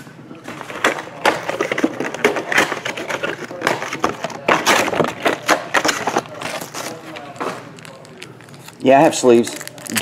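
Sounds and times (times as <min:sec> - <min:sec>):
plastic wrapping crinkling: 0:00.6 - 0:10.0.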